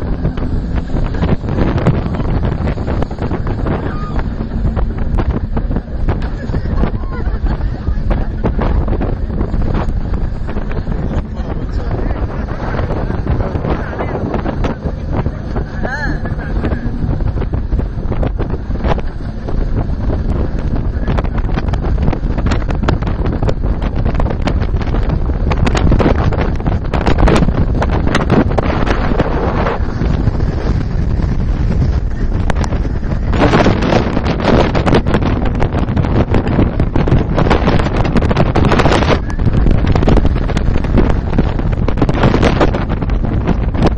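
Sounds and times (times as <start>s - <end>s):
outboard motor rumble: 0.0s - 43.9s
wind buffeting microphone: 0.0s - 43.9s.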